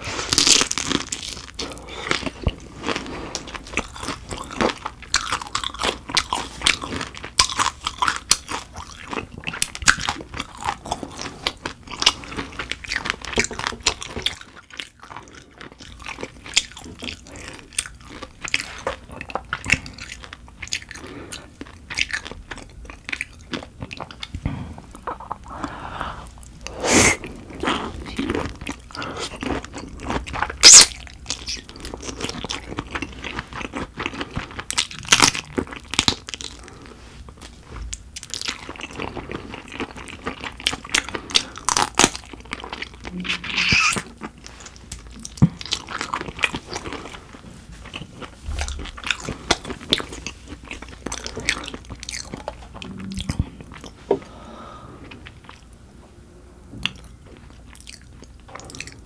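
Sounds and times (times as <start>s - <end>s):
crunchy bites and wet chewing: 0.0s - 54.0s.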